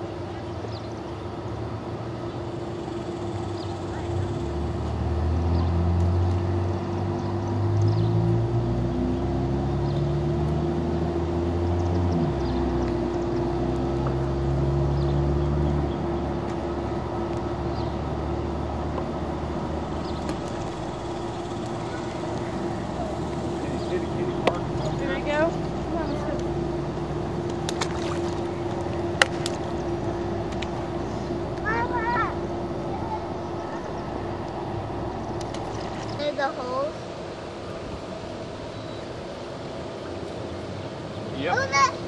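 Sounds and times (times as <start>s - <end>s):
road noise: 0.0s - 42.0s
car engine from inside cabin: 3.1s - 36.9s.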